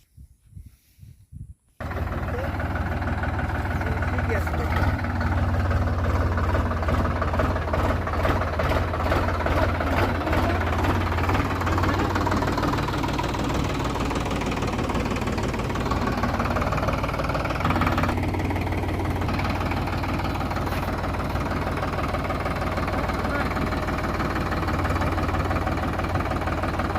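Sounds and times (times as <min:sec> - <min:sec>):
diesel tractor engine running: 0:01.8 - 0:26.9.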